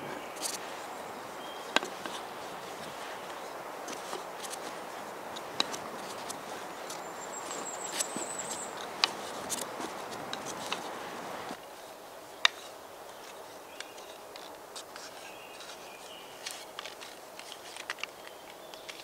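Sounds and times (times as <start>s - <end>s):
soft rustling: 0.0s - 19.0s.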